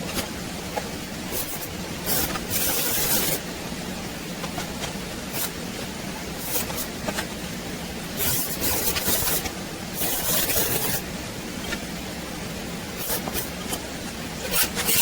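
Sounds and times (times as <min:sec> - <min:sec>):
air hissing bursts: 0:00.0 - 0:15.0.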